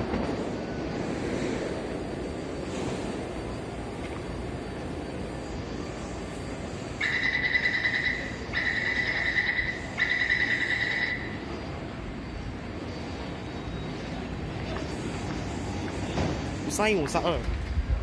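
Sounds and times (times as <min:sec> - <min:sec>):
station and train hum: 0:00.0 - 0:18.0.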